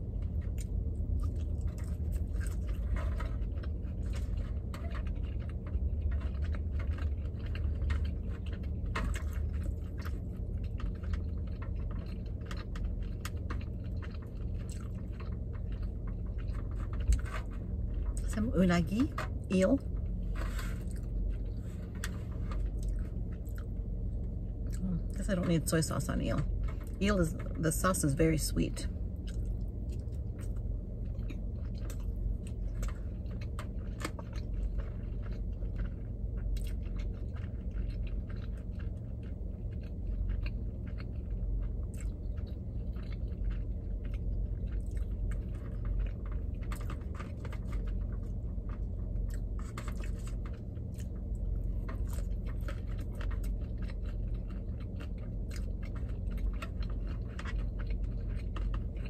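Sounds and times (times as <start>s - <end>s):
chewing with wet mouth clicks: 0.0s - 18.3s, 20.8s - 25.2s, 29.1s - 59.0s
constant low hum: 0.0s - 59.0s.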